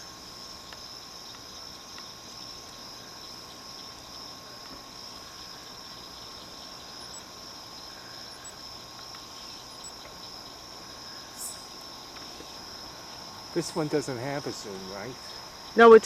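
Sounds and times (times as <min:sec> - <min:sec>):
crickets chorus: 0:00.0 - 0:16.0.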